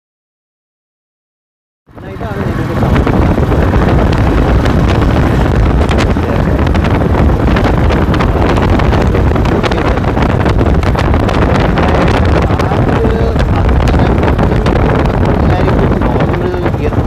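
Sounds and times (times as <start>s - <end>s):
low rumble of vehicle: 1.9s - 17.0s
wind buffeting microphone: 1.9s - 17.0s.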